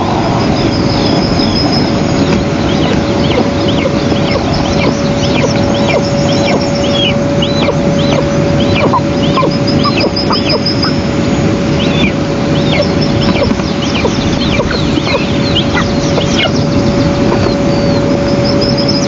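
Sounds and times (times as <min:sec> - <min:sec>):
constant hum: 0:00.0 - 0:19.0
steady rushing noise: 0:00.0 - 0:19.0
eagle chicks chirping: 0:00.4 - 0:19.0.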